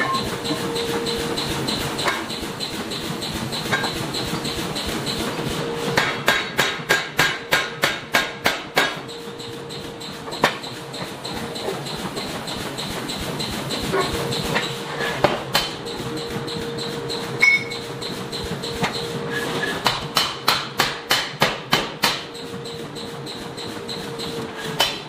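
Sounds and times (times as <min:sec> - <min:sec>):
machine hum: 0:00.0 - 0:20.5.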